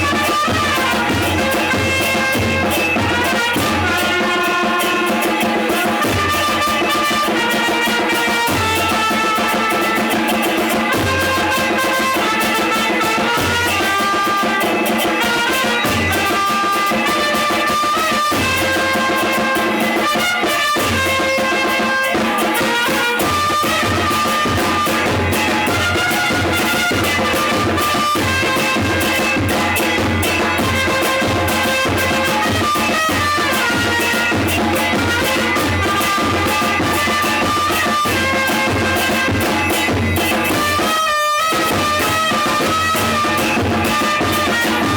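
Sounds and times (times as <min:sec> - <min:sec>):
snare drum beat: 0:00.0 - 0:44.9
trumpets playing a tune: 0:00.0 - 0:44.9.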